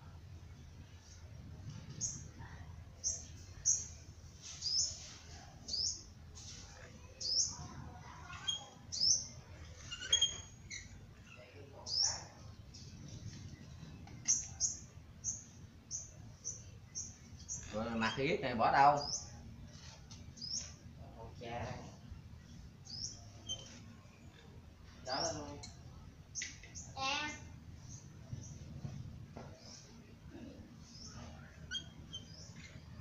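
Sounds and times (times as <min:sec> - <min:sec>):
small bird chirping: 0:01.0 - 0:20.8, 0:21.4 - 0:28.8, 0:30.8 - 0:33.0.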